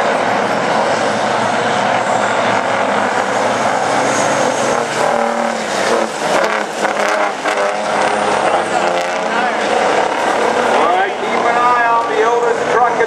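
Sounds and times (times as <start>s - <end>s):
racing truck engines droning: 0.0s - 13.0s
trucks passing by: 0.0s - 13.0s.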